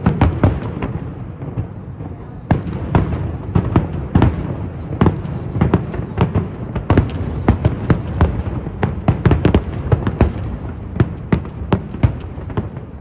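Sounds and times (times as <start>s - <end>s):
fireworks bursting with bangs: 0.0s - 13.0s.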